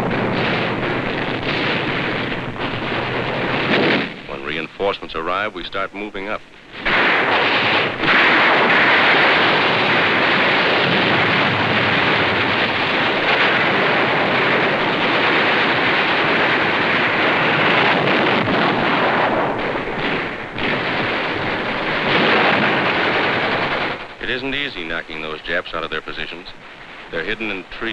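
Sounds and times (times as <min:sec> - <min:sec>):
gunfire: 0:00.0 - 0:05.0, 0:06.7 - 0:27.9
explosions: 0:00.0 - 0:27.9.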